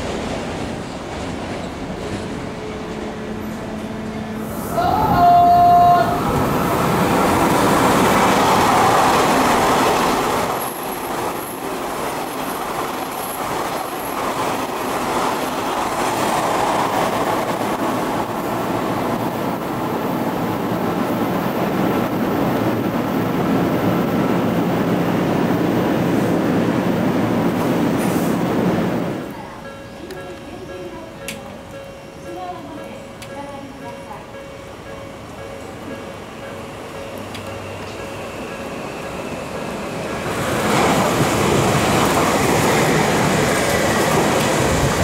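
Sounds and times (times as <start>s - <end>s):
electric train running past: 0.0s - 45.0s.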